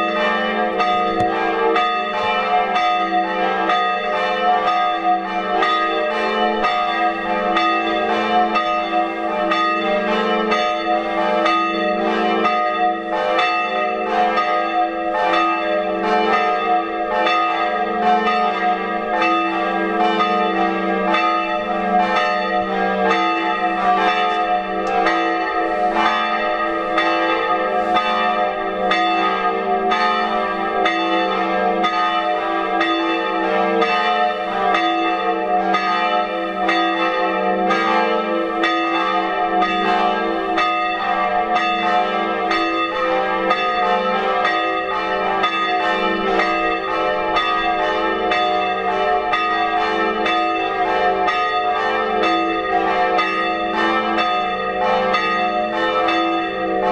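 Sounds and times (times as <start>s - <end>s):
church bells pealing: 0.0s - 56.9s.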